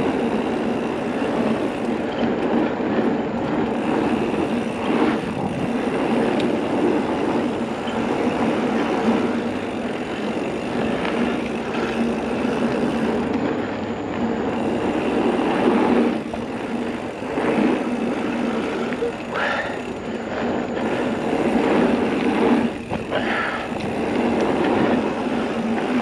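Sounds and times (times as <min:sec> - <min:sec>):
bike tyres rolling on gravel: 0:00.0 - 0:26.0
wind rushing over microphone: 0:00.0 - 0:26.0.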